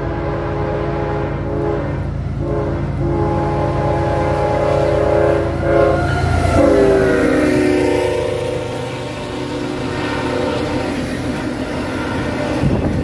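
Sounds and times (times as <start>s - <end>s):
locomotive air horn blasts: 0.0s - 13.0s
locomotive rumble: 0.0s - 13.0s.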